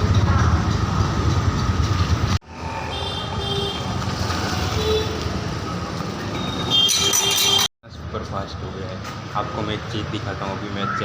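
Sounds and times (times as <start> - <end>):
traffic background noise: 0.0 - 11.0.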